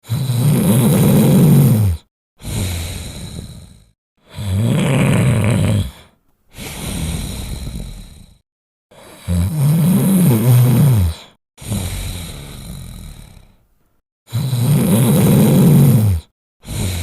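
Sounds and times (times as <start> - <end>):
dog snoring: 0.0 - 13.6, 14.3 - 17.0.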